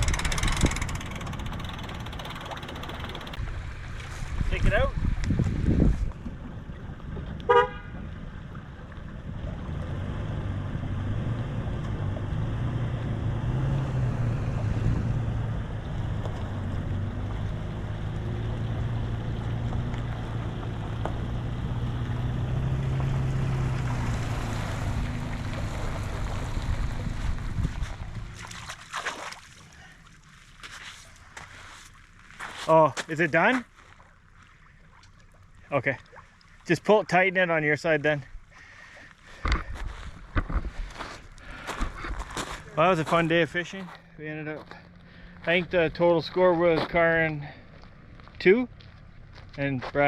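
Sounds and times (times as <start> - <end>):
engine running with low hum: 0.0 - 36.7, 37.7 - 50.0.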